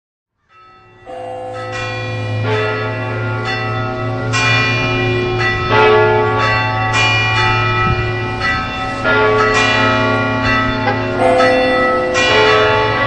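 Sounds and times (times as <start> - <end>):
church bells ringing: 0.5 - 13.0.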